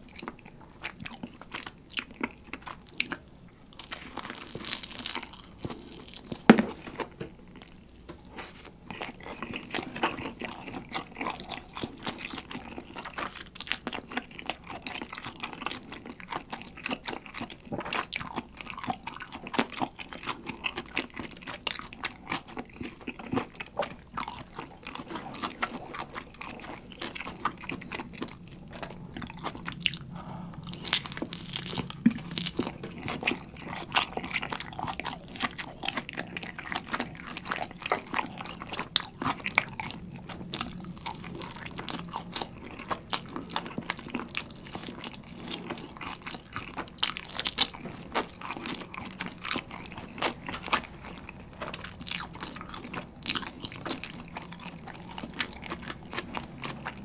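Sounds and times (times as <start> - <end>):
person chewing pizza: 0.0 - 57.0.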